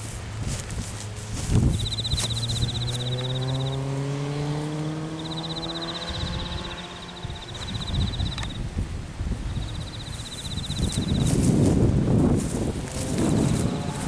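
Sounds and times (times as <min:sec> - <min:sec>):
vehicle engine accelerating: 0:00.0 - 0:08.8, 0:09.6 - 0:14.0
wind buffeting microphone: 0:00.0 - 0:14.0.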